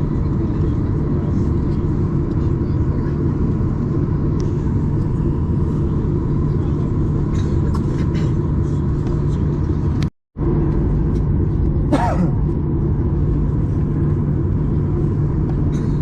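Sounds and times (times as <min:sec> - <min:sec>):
airplane cabin rumble and hum: 0:00.0 - 0:16.0.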